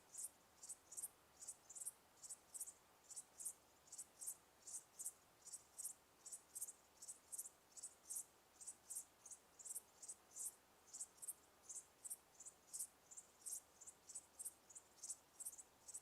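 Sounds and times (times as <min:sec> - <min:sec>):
crickets chirping: 0:00.1 - 0:16.0.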